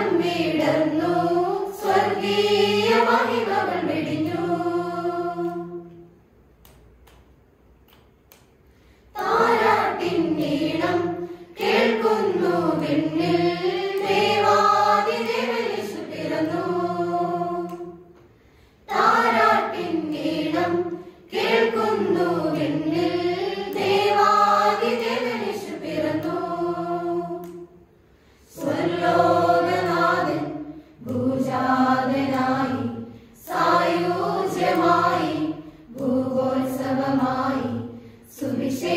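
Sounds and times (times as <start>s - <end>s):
church choir singing unaccompanied: 0.0s - 6.2s, 9.1s - 38.9s.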